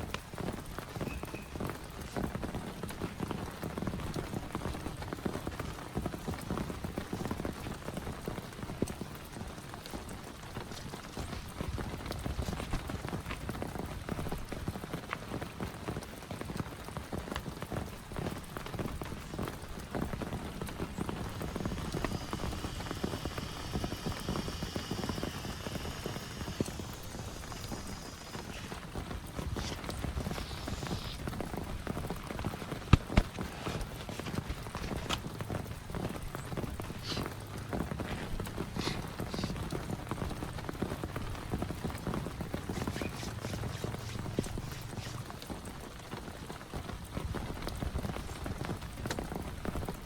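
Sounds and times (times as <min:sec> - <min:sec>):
heavy rain: 0:00.0 - 0:50.0
raindrops tapping a surface: 0:00.0 - 0:50.0.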